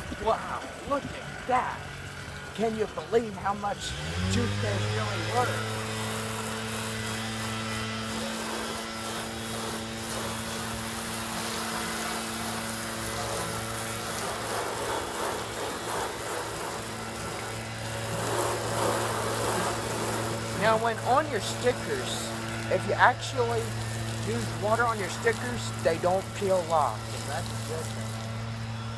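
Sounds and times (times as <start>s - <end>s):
hose spraying water on car: 0.0s - 28.8s.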